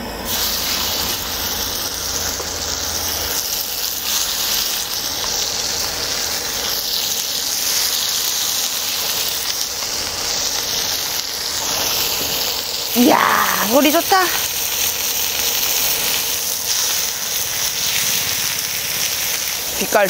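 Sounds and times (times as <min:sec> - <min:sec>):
meat sizzling on a griddle: 0:00.2 - 0:20.0.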